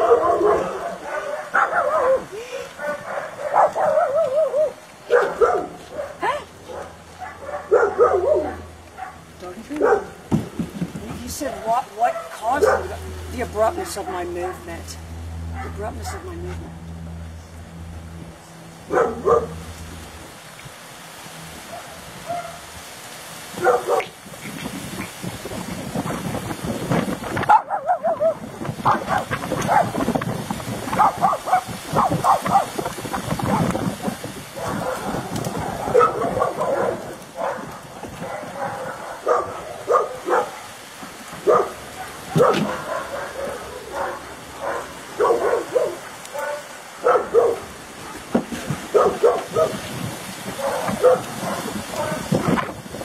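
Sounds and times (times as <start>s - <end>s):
dogs barking: 0.0s - 10.3s, 12.0s - 14.8s, 15.4s - 16.6s, 18.8s - 19.8s, 21.6s - 22.7s, 23.5s - 25.2s, 27.4s - 52.8s.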